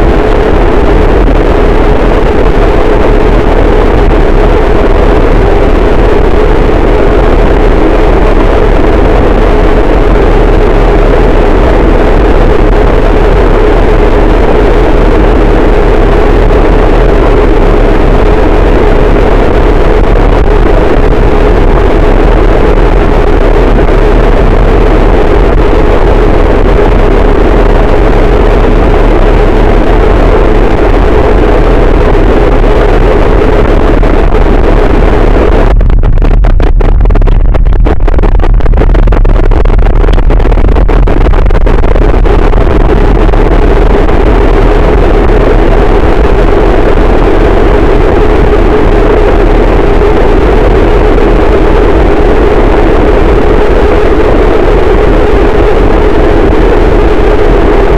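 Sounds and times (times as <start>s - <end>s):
heavily distorted static noise: 0.0s - 57.9s.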